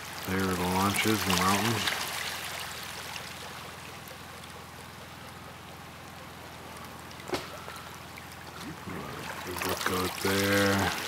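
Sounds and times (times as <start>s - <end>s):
boat engine humming: 0.0s - 11.0s
water wash: 0.0s - 11.0s
wind: 0.0s - 11.0s.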